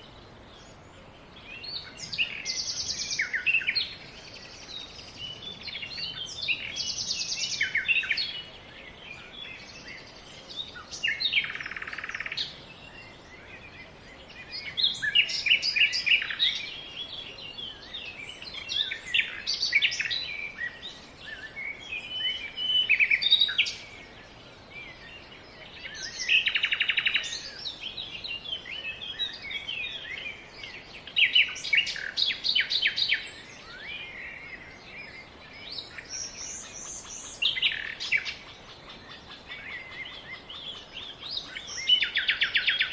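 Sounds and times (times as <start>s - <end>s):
faint background hiss: 0.0s - 42.9s
songbirds chirping and whistling: 0.0s - 42.9s.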